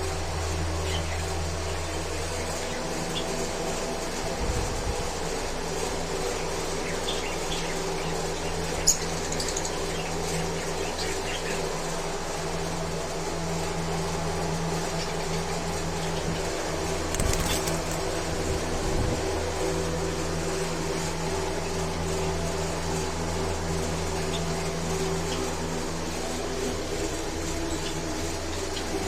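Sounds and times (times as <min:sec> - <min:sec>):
constant hiss: 0:00.0 - 0:29.0
mechanical hum: 0:00.0 - 0:29.0.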